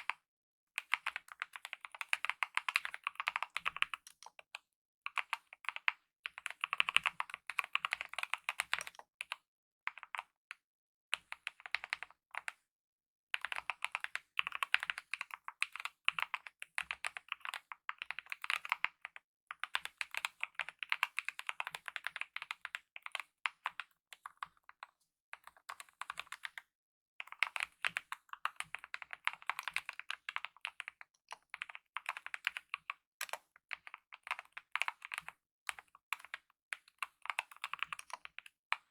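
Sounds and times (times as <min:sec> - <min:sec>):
typing on mechanical keyboard: 0:00.8 - 0:04.5, 0:05.2 - 0:10.3, 0:13.4 - 0:38.9.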